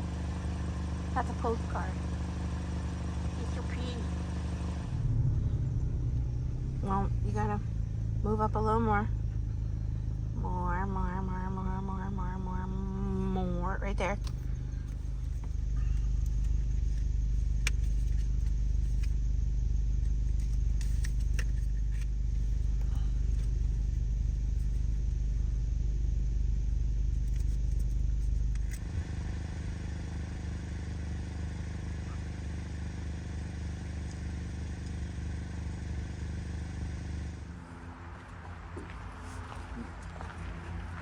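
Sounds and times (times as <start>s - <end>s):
engine-like drone: 0.0s - 41.0s.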